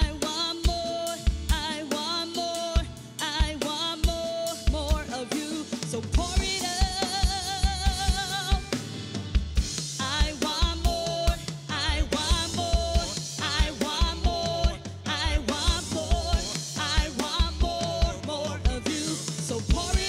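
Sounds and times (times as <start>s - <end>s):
drum kit beat: 0.0s - 20.0s
worship band music: 0.0s - 20.0s.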